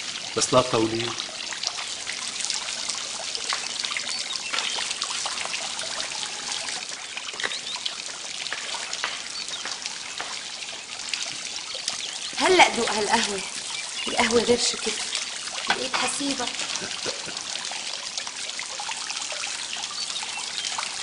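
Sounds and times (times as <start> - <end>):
fountain splashing into stone basin: 0.0 - 21.0.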